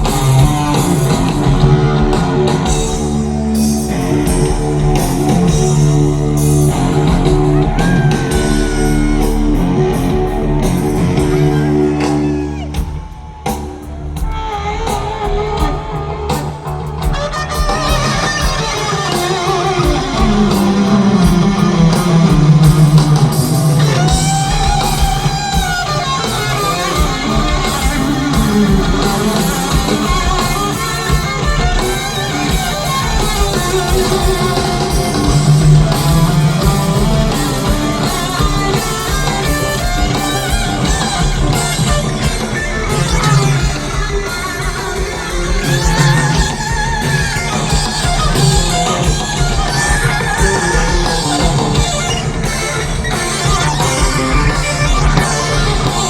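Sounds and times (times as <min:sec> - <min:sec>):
electric guitar: 0:00.0 - 0:56.0
heavy metal band playing: 0:00.0 - 0:56.0.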